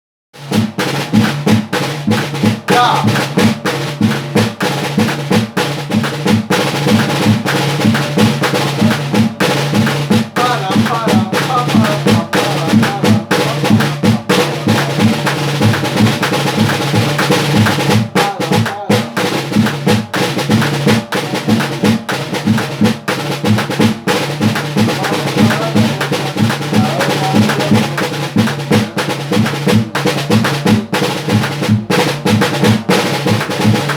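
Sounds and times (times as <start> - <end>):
snare drum rhythm: 0.4 - 33.9.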